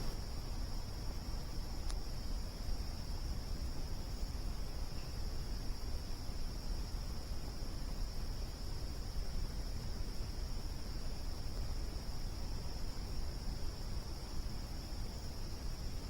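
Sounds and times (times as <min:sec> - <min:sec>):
crickets trilling: 0:00.0 - 0:16.0
low continuous rumble: 0:00.0 - 0:16.0.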